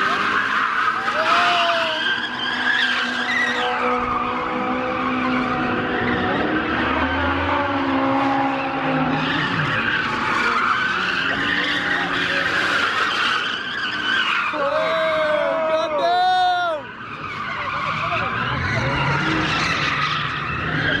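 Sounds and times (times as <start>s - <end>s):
car engines running: 0.0s - 21.0s
tyres squealing: 0.0s - 21.0s.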